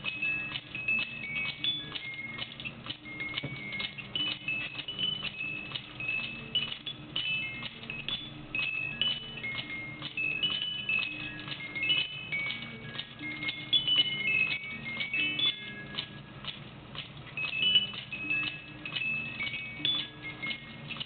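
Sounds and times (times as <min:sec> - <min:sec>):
clockwork clicks: 0:00.0 - 0:21.0
music box tune: 0:00.0 - 0:21.0.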